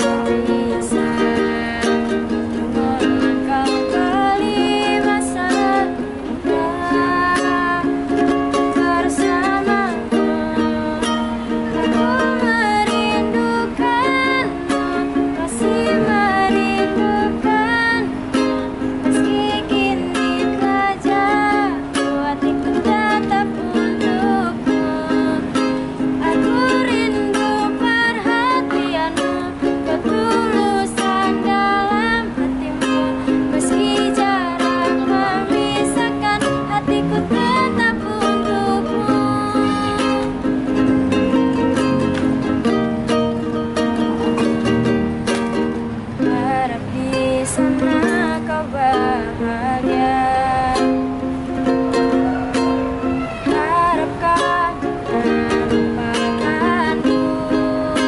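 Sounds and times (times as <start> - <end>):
woman singing: 0.0 - 44.7, 45.3 - 58.0
strummed ukulele: 0.0 - 58.0.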